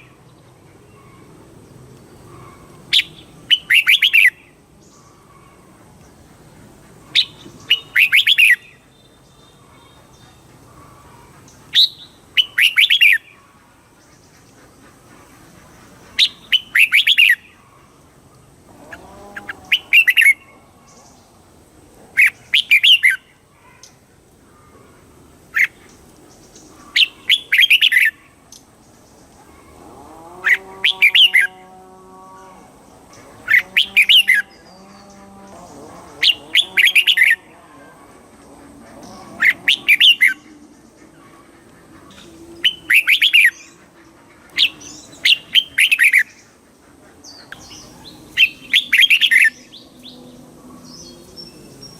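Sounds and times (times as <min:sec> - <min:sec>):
bird warbling song: 0:00.0 - 0:21.4, 0:22.2 - 0:51.9
fainter lower bird calls: 0:02.0 - 0:21.4, 0:22.2 - 0:51.9.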